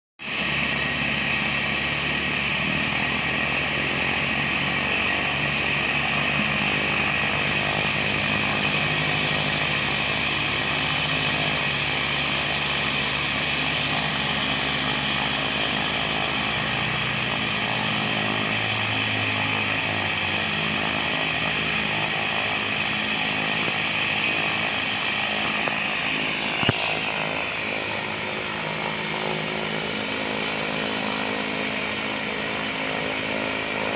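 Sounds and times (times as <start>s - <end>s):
high turbine whine: 0.2s - 33.9s
propeller noise: 0.2s - 33.9s.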